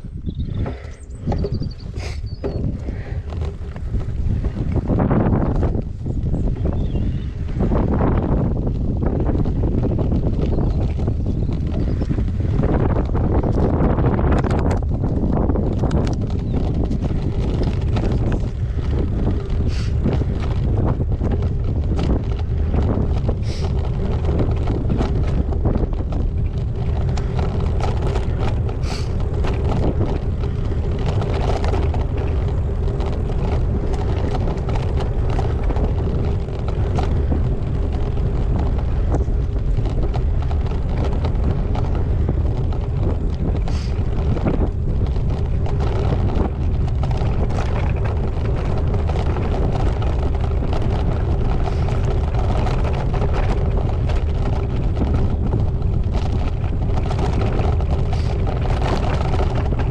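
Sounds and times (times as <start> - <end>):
bike clicks and rattles: 0.0 - 59.9
wind buffeting microphone: 0.0 - 59.9.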